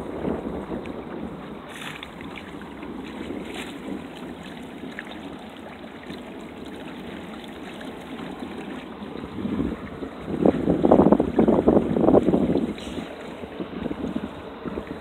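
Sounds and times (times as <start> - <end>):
sharp water splashes: 0.0 - 15.0
water rushing along boat hull: 0.0 - 15.0
wind buffeting microphone: 0.0 - 15.0.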